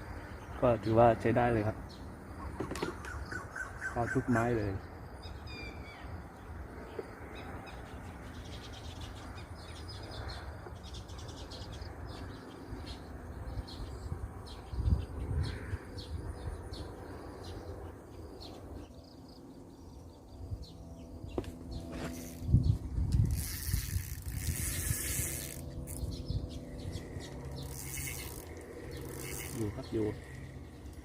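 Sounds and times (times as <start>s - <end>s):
small birds chirping: 0.1s - 31.0s
low outdoor rumble: 4.8s - 31.0s.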